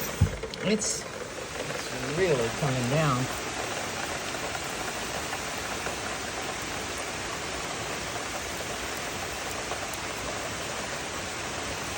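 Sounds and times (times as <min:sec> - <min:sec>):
heavy rain pouring: 0:00.0 - 0:11.9
raindrop ticks: 0:00.0 - 0:11.9.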